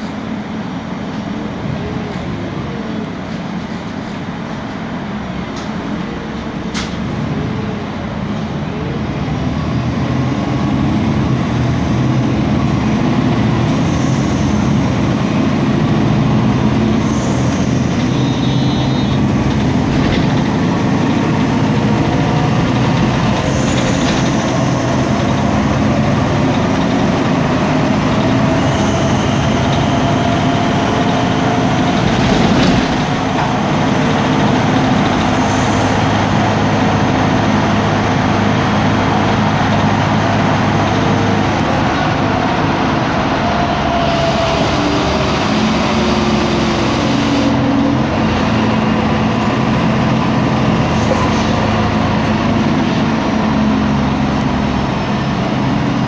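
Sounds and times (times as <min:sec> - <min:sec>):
bus engine pulling: 0:00.0 - 0:56.0.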